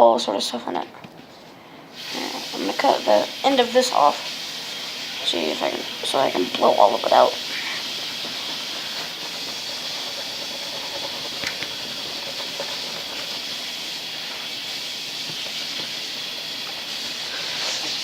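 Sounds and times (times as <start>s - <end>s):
steady hiss: 1.6s - 18.0s.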